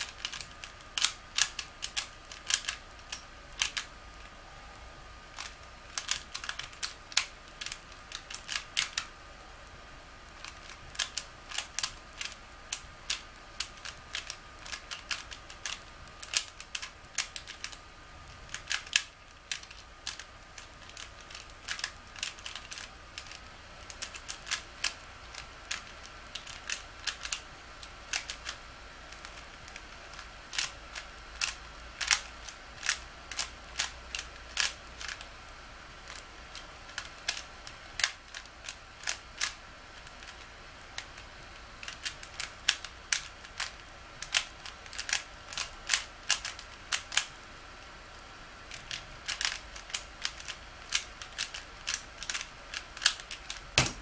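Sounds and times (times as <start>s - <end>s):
puzzle cube clicking as turned: 0.0s - 4.3s, 5.3s - 9.1s, 10.3s - 17.8s, 18.4s - 35.3s, 35.9s - 47.3s, 48.7s - 54.0s.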